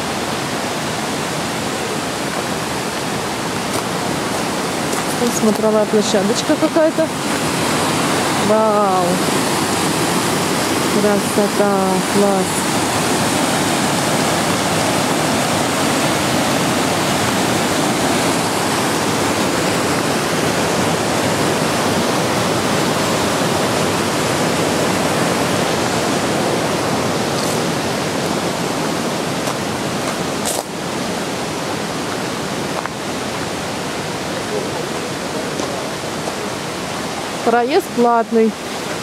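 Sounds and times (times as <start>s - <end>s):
mountain river rushing: 0.0s - 39.0s.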